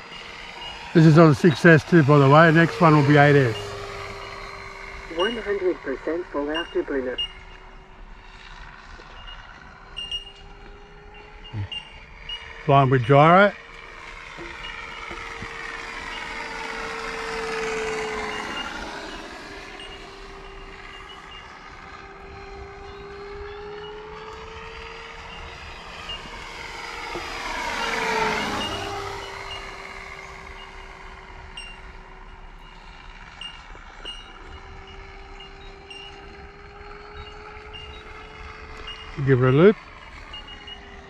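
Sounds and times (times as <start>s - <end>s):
model plane motor and propeller: 0.0s - 41.0s.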